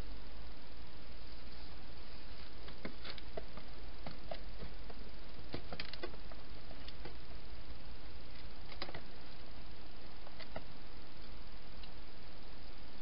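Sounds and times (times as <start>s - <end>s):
low hum: 0.0s - 13.0s
steady hiss: 0.0s - 13.0s.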